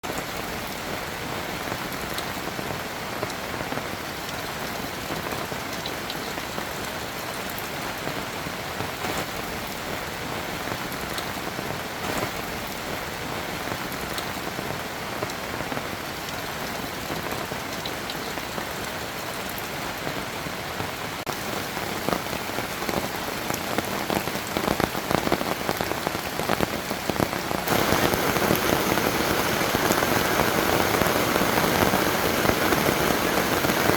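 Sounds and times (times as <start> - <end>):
rain patter: 0.0 - 33.9.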